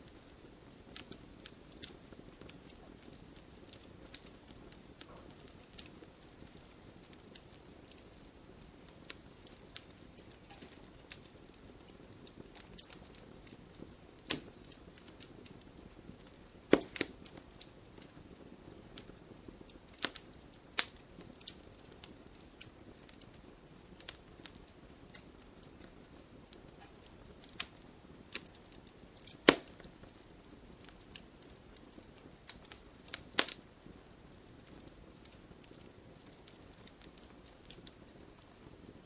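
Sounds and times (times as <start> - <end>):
campfire crackling and popping: 0.0 - 39.0
faint steady hiss: 0.0 - 39.0.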